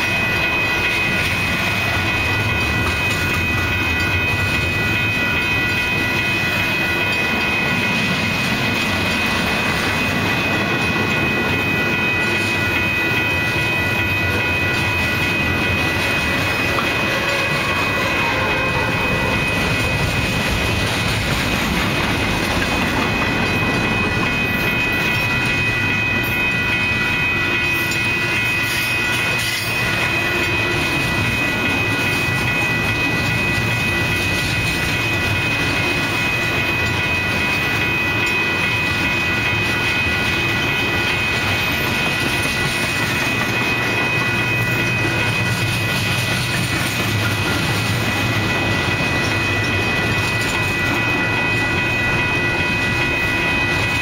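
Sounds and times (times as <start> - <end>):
high ringing tones: 0.0 - 54.0
steel wheels rumbling on rails: 0.0 - 54.0.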